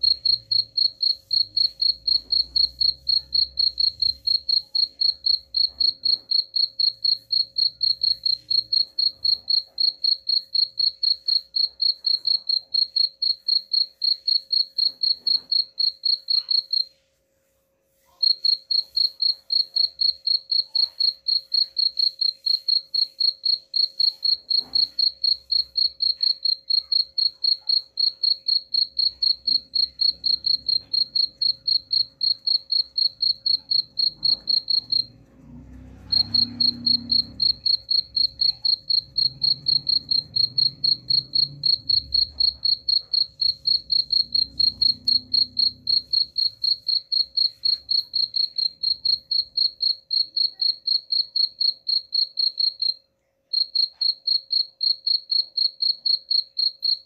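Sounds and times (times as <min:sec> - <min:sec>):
cricket chirping: 0:00.0 - 0:17.0, 0:18.2 - 0:57.0.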